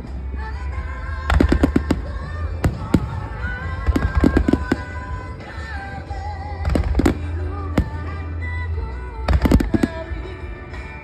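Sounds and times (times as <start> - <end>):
music: 0.0 - 11.0
low rumble: 0.5 - 10.2
fireworks bangs: 0.8 - 8.5, 9.3 - 11.0.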